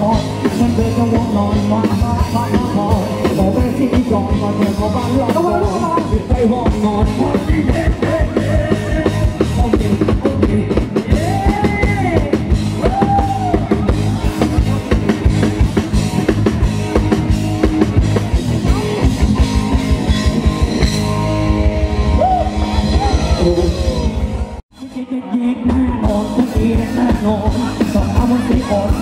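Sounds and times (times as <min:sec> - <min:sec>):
drum kit beat: 0:00.0 - 0:29.0
rock band playing: 0:00.0 - 0:29.0.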